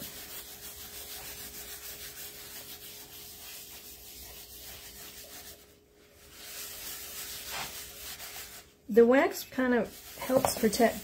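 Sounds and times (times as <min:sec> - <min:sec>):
cloth rubbing wood: 0:00.0 - 0:08.8, 0:09.4 - 0:11.0.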